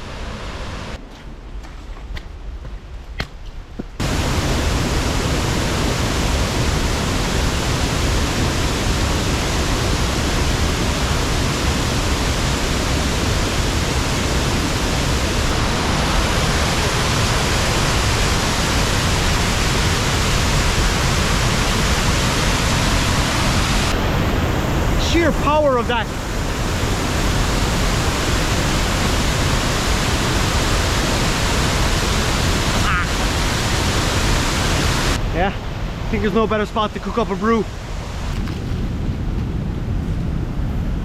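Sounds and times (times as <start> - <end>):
waterfall rushing: 4.0 - 38.3.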